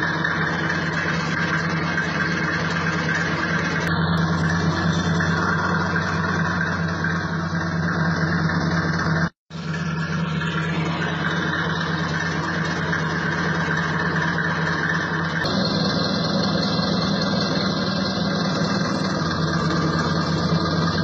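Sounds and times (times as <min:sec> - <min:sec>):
heavy vehicle engine drone: 0:00.0 - 0:21.0.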